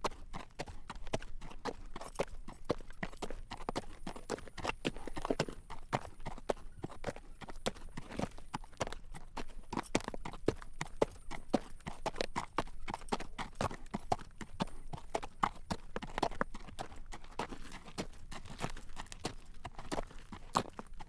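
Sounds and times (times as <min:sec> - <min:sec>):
horse hooves clip-clopping on pavement: 0:00.0 - 0:21.0.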